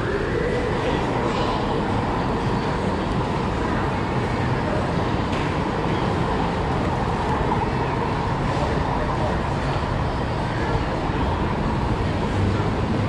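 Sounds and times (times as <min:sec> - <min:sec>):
city road traffic hum: 0:00.0 - 0:13.0.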